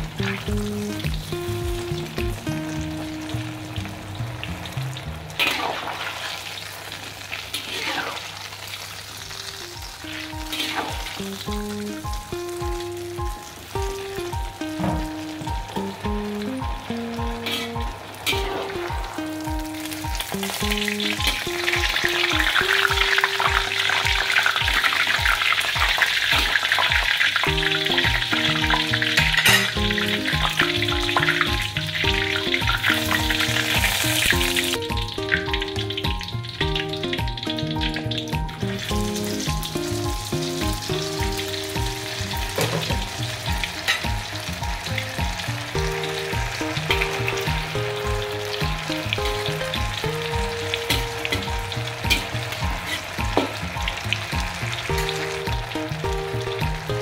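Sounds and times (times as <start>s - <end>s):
background music with a beat: 0.0s - 5.3s, 9.6s - 57.0s
oil sizzling in a wok: 0.0s - 57.0s.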